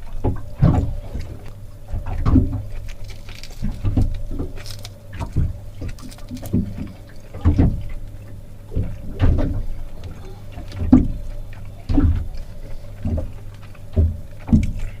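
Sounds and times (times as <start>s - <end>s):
steady low hum: 0.0s - 15.0s
waves slapping against boat hull: 0.0s - 15.0s.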